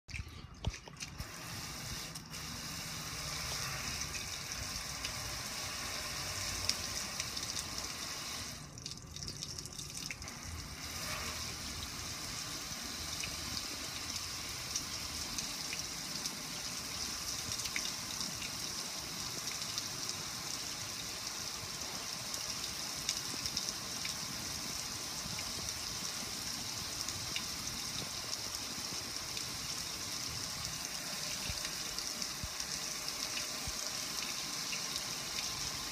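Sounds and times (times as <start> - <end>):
water spraying on metal grill: 1.1 - 8.7, 10.2 - 35.9.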